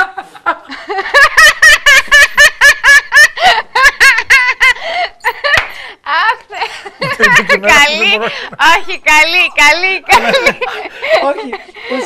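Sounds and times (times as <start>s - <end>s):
people laughing hard: 0.0s - 5.6s, 6.6s - 12.0s.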